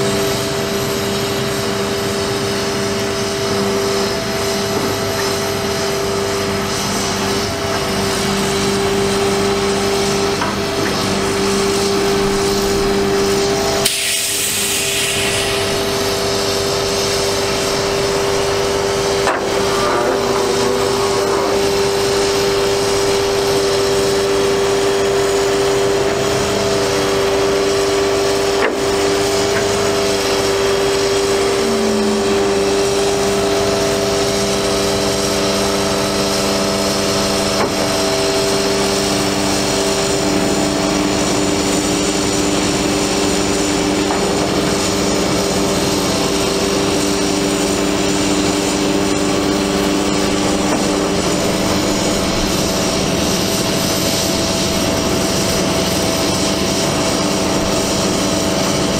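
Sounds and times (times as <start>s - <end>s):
hydraulic crane hum with whine: 0.0s - 58.9s.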